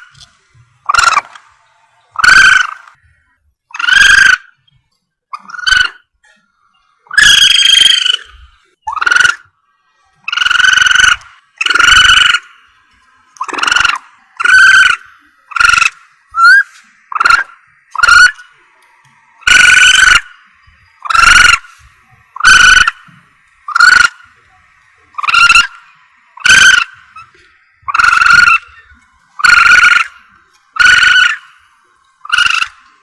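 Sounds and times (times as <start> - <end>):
harsh squalling calls: 0.0 - 33.0.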